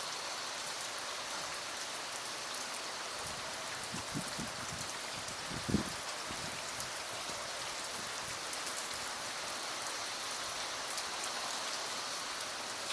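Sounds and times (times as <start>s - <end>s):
steady rain: 0.0s - 12.9s.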